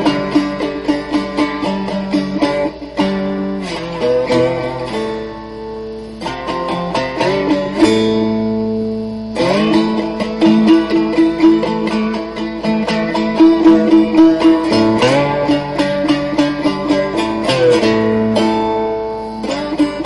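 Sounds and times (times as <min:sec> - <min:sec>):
slide guitar notes: 0:00.0 - 0:20.0.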